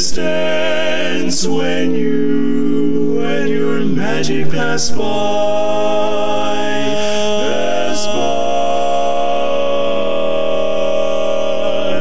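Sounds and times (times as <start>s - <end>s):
male quartet singing a cappella: 0.0s - 12.0s.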